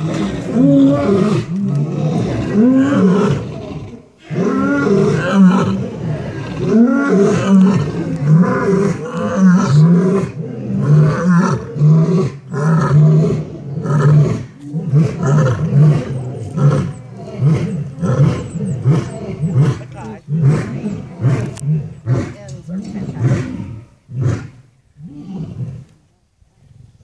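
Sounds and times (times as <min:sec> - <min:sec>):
lions roaring: 0:00.0 - 0:25.9.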